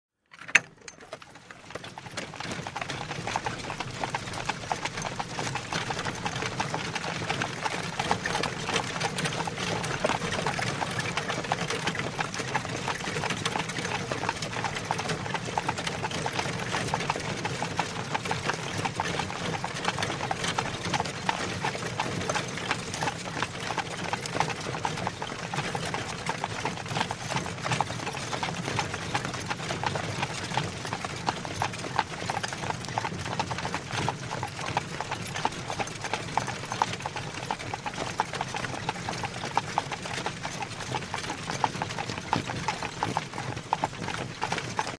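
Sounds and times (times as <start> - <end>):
horse hooves clip-clopping: 0.3 - 44.9
wagon rolling rattle: 0.3 - 44.9.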